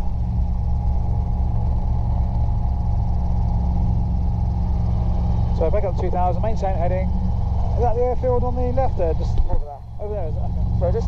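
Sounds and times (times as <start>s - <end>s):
helicopter engine and rotors droning: 0.0s - 11.0s.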